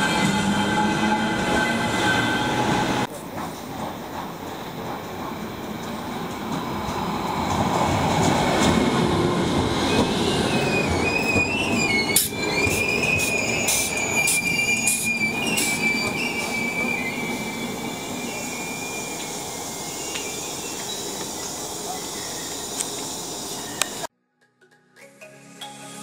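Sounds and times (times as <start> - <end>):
train coaches rumbling: 0.0 - 24.1
train wheels and brakes squealing: 0.0 - 24.1.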